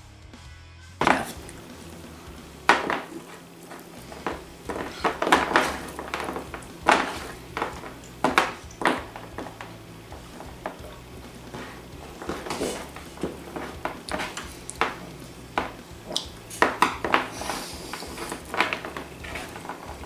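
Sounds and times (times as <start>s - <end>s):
snacks clattering and rustling: 1.0s - 20.0s.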